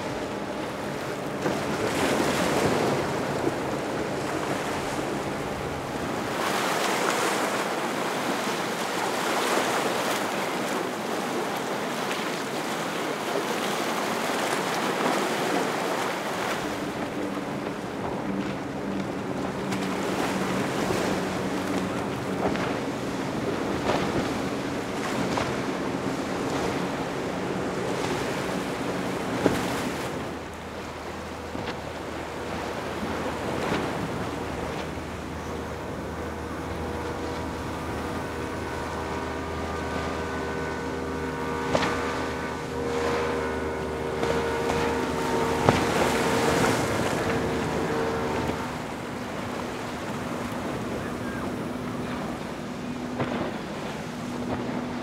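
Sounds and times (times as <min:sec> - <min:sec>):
powerboat engines passing: 0:00.0 - 0:55.0
rushing water: 0:00.0 - 0:55.0
steady engine drone: 0:00.0 - 0:55.0.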